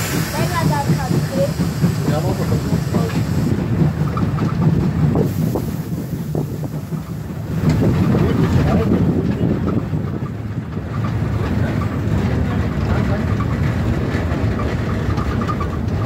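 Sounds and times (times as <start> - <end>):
steam locomotive rumbling: 0.0 - 16.0
wind buffeting microphone: 0.0 - 16.0.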